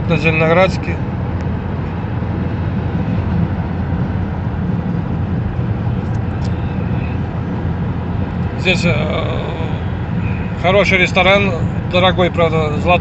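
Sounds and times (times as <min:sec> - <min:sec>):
car engine and tyre drone: 0:00.0 - 0:13.0.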